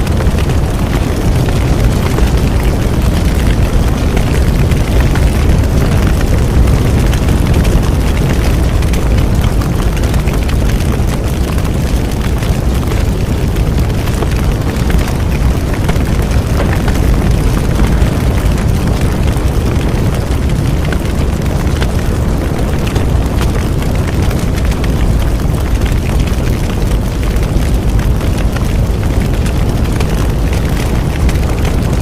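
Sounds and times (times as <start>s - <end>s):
burning wood crackling: 0.0s - 32.0s
fire flames rumbling: 0.0s - 32.0s.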